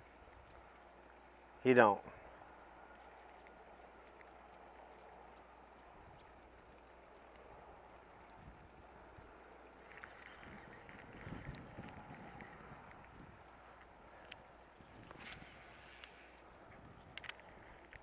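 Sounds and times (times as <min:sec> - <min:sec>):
faint ticks: 0:00.0 - 0:18.0
outdoor background hiss: 0:00.0 - 0:18.0.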